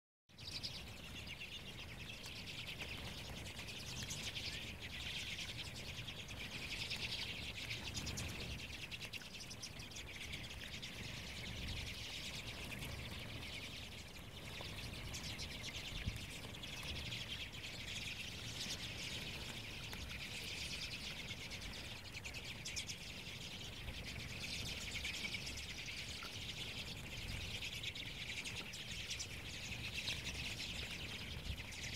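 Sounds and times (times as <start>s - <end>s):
flock of birds chattering: 0.3s - 31.9s.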